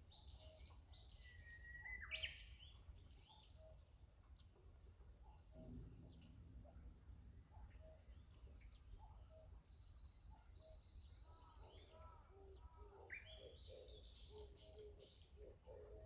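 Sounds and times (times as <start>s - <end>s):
birds calling and singing: 0.0s - 16.0s.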